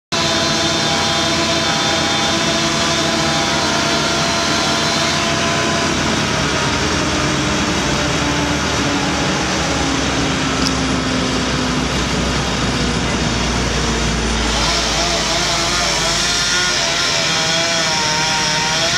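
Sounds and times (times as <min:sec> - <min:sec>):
tree-trimming machine engine drone: 0:00.1 - 0:18.9.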